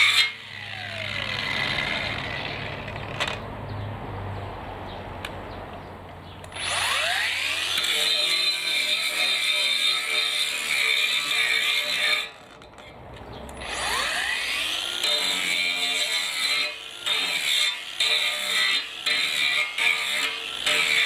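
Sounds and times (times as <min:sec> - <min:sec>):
angle grinder whining: 0:00.0 - 0:03.5, 0:06.4 - 0:21.0.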